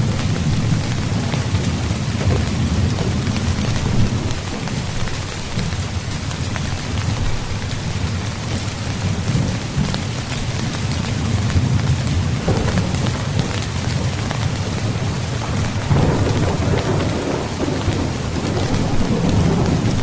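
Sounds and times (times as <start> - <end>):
rain on tent fabric: 0.0 - 20.0.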